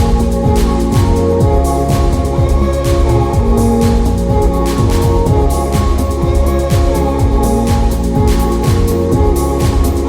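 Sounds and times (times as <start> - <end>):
ambient house music: 0.0 - 10.0.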